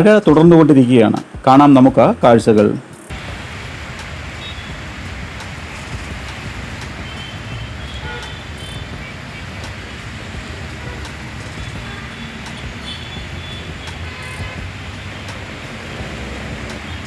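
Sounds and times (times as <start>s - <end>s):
heavy rain hissing: 3.1s - 17.0s
traffic on flooded road: 3.1s - 17.0s.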